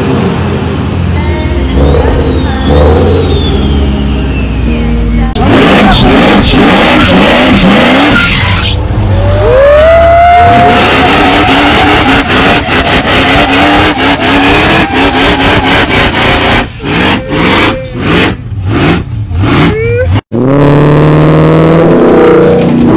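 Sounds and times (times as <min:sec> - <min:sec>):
car engine revving: 0:00.0 - 0:04.6, 0:05.3 - 0:22.9
tire squealing: 0:00.0 - 0:22.9.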